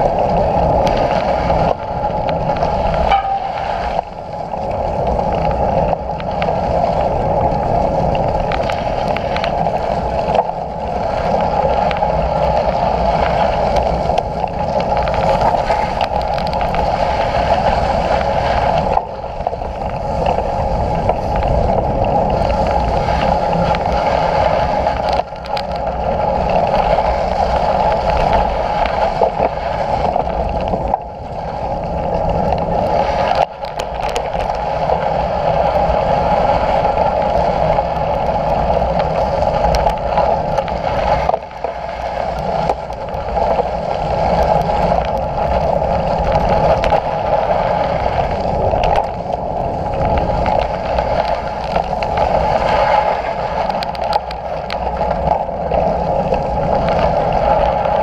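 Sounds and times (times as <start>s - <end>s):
vehicle running noise: 0.0s - 58.0s.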